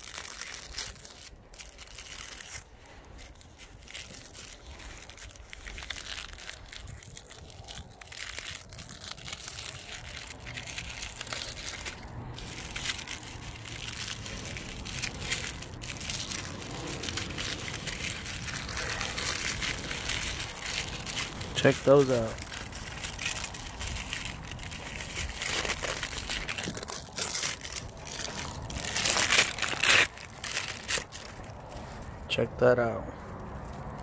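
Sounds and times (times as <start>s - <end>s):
cellophane wrapper crinkling: 0.0s - 32.2s.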